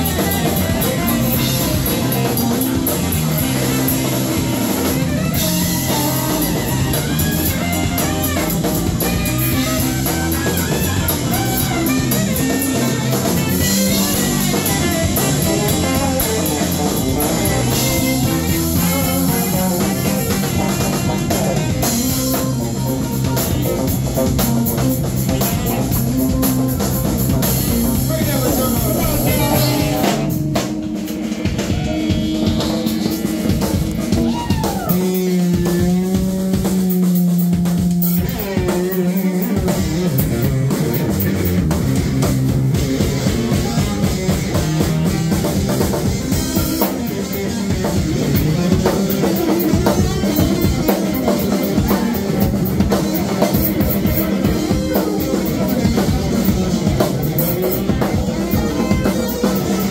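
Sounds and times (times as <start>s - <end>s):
bass line: 0.0s - 59.9s
drum kit: 0.0s - 59.9s
electric guitar: 0.0s - 59.9s
saxophone: 0.0s - 59.9s.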